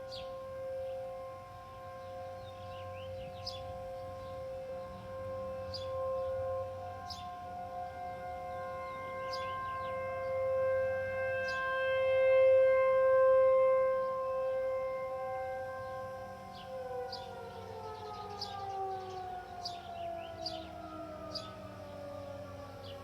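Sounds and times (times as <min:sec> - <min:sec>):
tornado siren wailing: 0:00.0 - 0:23.0.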